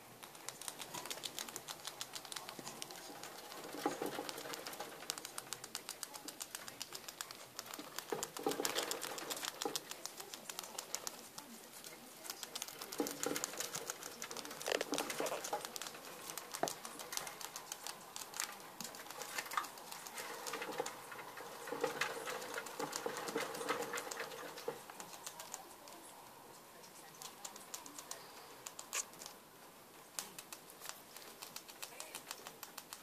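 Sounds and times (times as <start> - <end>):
rats clawing at cage bars: 0.0 - 26.1, 30.1 - 33.0.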